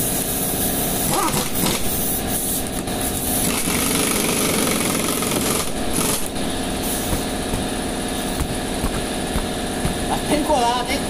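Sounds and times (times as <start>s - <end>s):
pneumatic impact wrench rattling: 0.0s - 10.5s.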